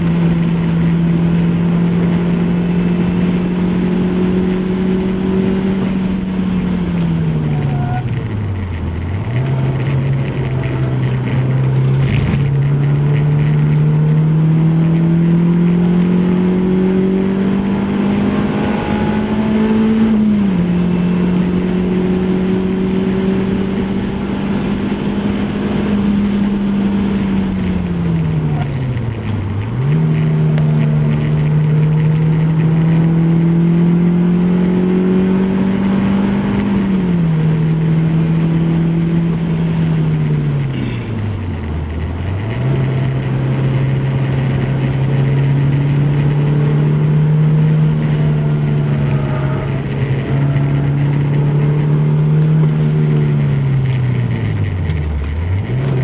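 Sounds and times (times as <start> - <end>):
car engine accelerating hard: 0.0 - 56.0
wind and tyre noise: 0.0 - 56.0.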